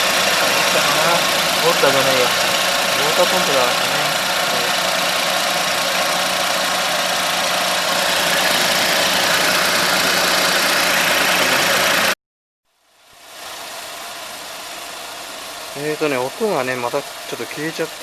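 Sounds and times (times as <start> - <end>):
car engine idling: 0.0 - 12.2, 12.9 - 18.0.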